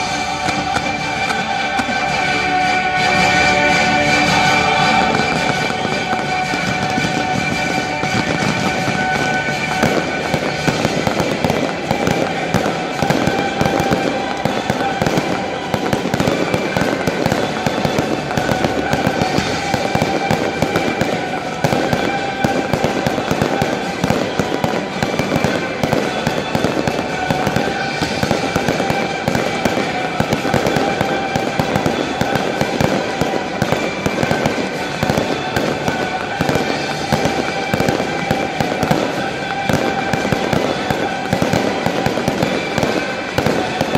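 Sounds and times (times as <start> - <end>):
fireworks bangs and crackle: 0.0 - 43.9
recorded music: 0.0 - 43.9.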